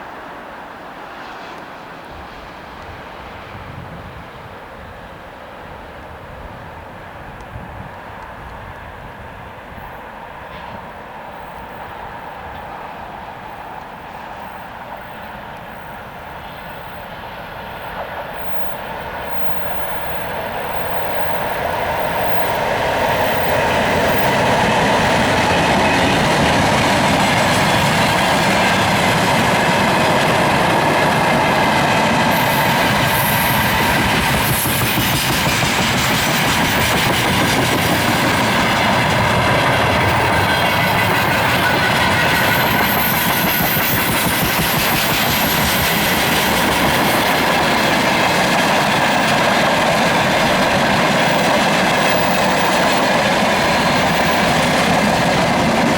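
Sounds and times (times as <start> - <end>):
train wheels clattering on rails: 9.9 - 55.9.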